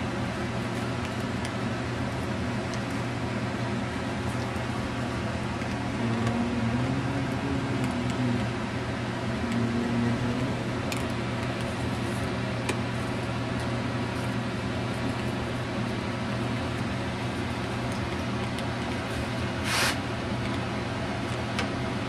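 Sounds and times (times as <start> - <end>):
mechanical hum with low drone: 0.0 - 22.0.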